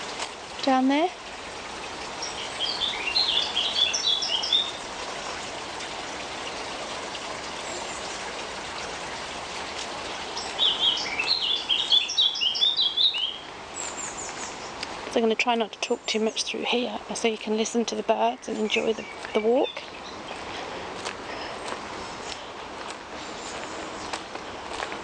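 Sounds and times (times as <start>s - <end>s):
steady background hiss: 0.0s - 25.0s
songbird singing: 2.1s - 5.4s, 7.6s - 24.9s.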